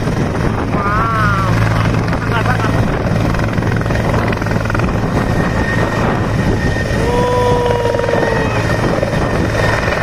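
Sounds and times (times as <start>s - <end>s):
helicopter rotor and turbines: 0.0s - 10.0s.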